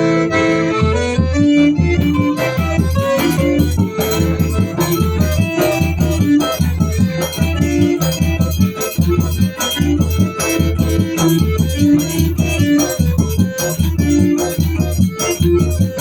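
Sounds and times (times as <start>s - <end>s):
accordion playing a tune: 0.0s - 16.0s
shaker beat: 2.0s - 16.0s.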